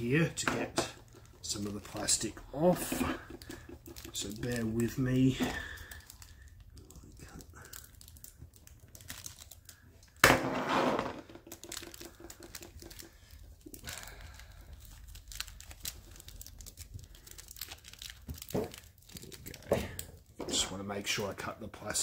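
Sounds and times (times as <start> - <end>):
plastic wrap crinkling and tearing: 0.0 - 10.2, 11.4 - 20.9
faint crackles and clicks: 0.7 - 10.2, 11.4 - 20.4.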